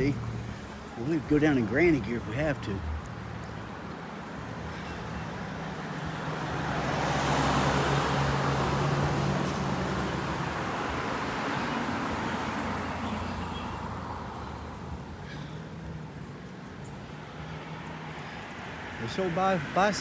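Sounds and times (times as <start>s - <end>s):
vehicle passing: 0.0s - 20.0s.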